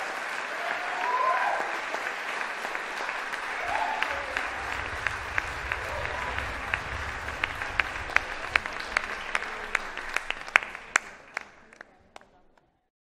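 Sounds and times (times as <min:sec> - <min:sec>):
audience applause: 0:00.0 - 0:12.6.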